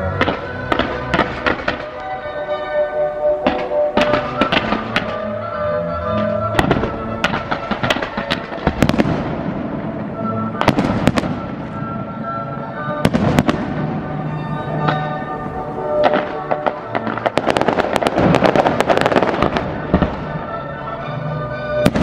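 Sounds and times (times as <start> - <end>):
fireworks bangs: 0.0 - 2.5, 3.4 - 22.0
fireworks crackling: 0.0 - 22.0
music playing: 0.0 - 22.0.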